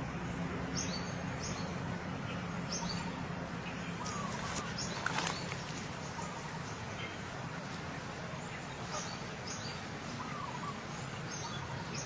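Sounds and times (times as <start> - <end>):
steady background hum: 0.0 - 12.0
bird chirping: 0.3 - 7.2, 8.4 - 12.0.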